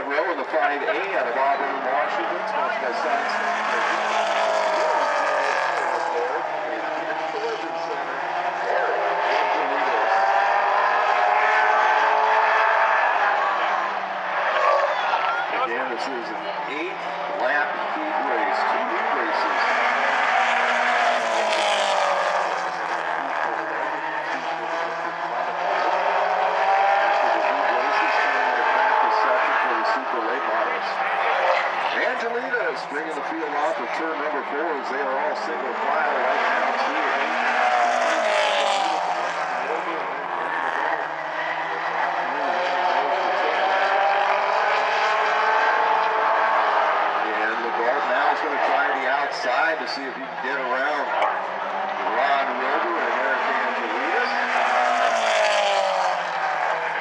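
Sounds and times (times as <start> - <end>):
race car engines running: 0.0 - 57.0.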